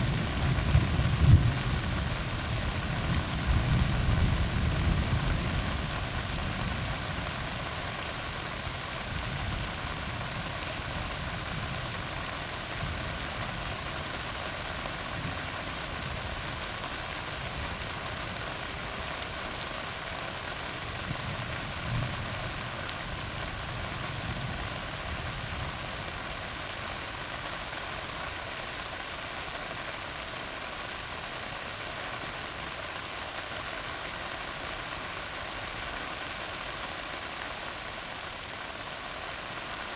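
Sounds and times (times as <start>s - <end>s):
rain falling on a road: 0.0s - 39.9s.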